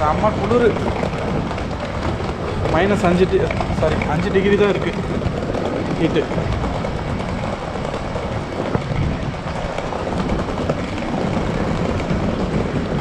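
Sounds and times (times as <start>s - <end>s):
train rumbling along tracks: 0.0s - 13.0s
faint clicks from rails: 0.1s - 13.0s.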